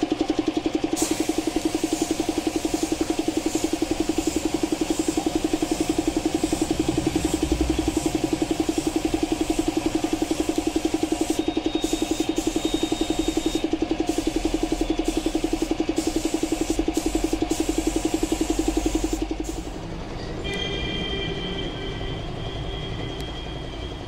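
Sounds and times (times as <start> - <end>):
piston air compressor running: 0.0 - 19.9.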